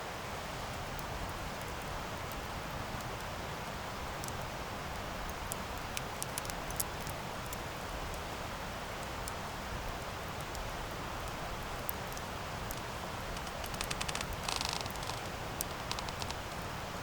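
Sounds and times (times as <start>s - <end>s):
campfire flames hissing: 0.2s - 17.0s
wood crackling and popping: 0.9s - 8.3s, 8.9s - 17.0s.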